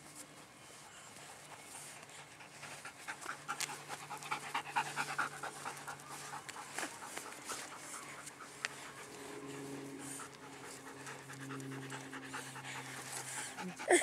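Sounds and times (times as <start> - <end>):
dog panting rapidly: 1.2 - 14.0.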